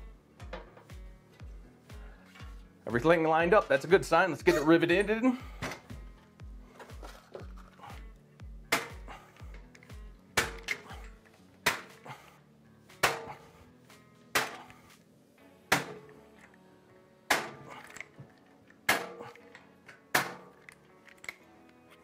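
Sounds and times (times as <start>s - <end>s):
background music: 0.0s - 22.0s.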